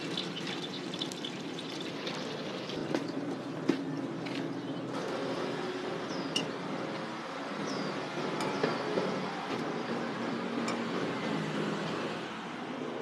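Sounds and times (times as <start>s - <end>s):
background hum of busy stall: 1.9s - 13.0s.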